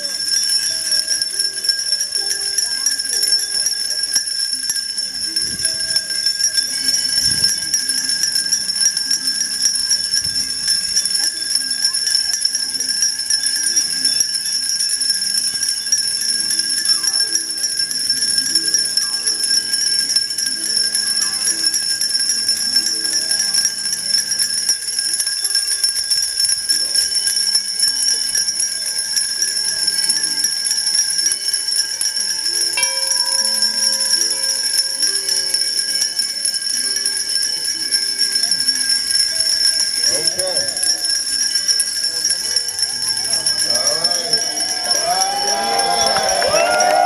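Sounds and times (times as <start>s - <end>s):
many bells ringing: 0.0s - 47.0s.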